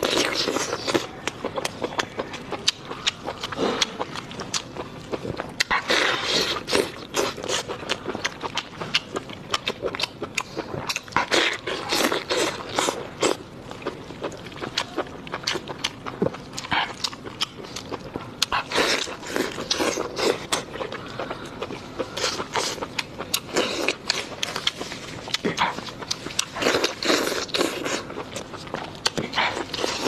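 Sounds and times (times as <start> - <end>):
person chewing with crunches: 0.0 - 30.0.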